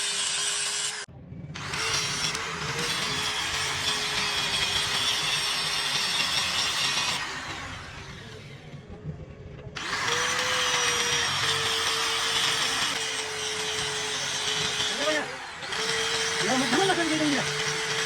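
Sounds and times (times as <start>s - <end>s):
electric power tool running: 0.0s - 8.8s, 9.8s - 18.0s.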